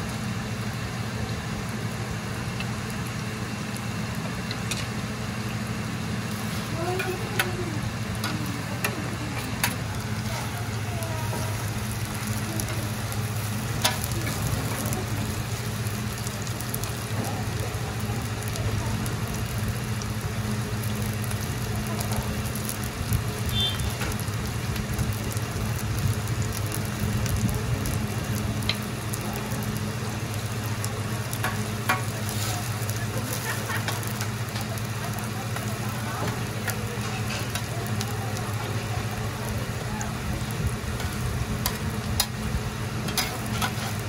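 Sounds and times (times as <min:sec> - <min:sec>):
pancake sizzling in oil: 0:00.0 - 0:44.0.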